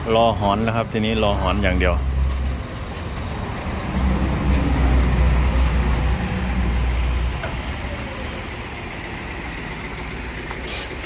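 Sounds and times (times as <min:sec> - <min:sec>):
diesel truck engine rumble: 0:00.0 - 0:11.0.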